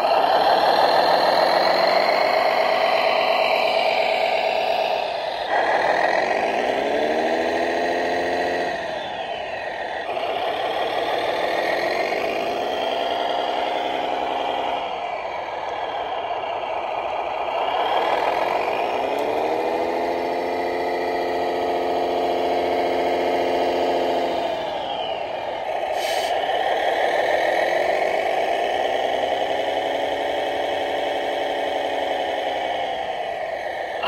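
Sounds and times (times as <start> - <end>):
model vehicle engine revving: 0.0 - 34.0.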